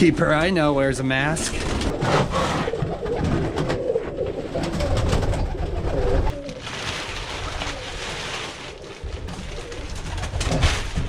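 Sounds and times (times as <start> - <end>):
pigeons cooing: 1.5 - 10.6.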